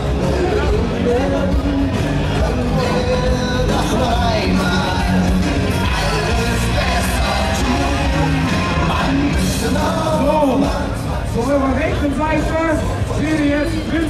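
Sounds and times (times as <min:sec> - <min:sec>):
carnival party music with singing: 0:00.0 - 0:14.0.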